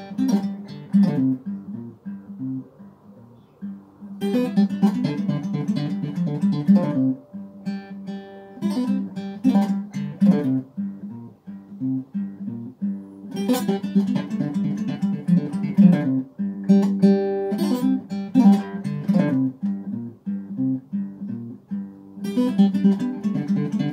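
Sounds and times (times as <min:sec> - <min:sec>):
acoustic guitar strumming: 0:00.0 - 0:23.9.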